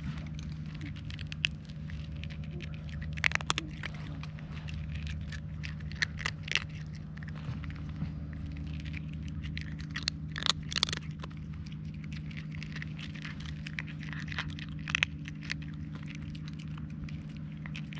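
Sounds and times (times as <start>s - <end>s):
kitten crunching dry kibble: 0.0s - 17.9s
steady low hum: 0.0s - 17.9s.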